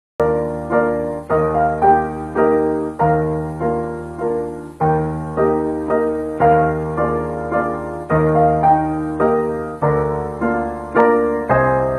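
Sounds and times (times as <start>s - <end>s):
piano chords: 0.2s - 11.9s.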